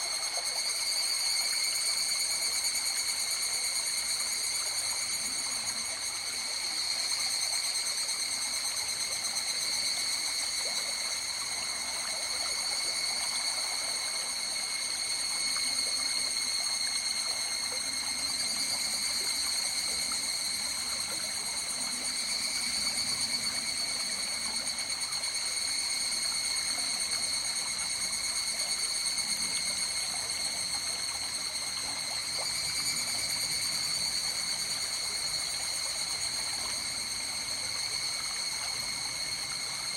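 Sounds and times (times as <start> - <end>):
high-pitched insect chorus: 0.0 - 39.9
stream flowing and trickling: 0.0 - 39.9.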